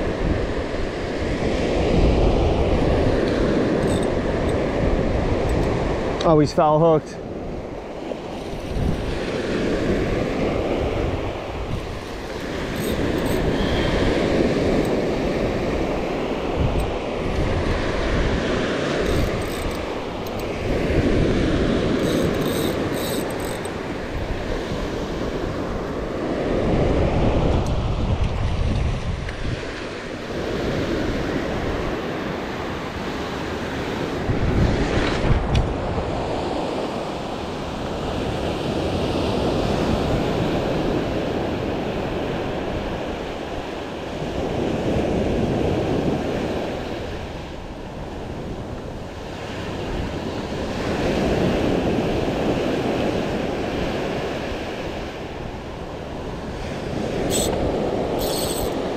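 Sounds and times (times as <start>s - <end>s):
ocean surf breaking: 0.0s - 58.9s
wind buffeting microphone: 0.0s - 58.9s.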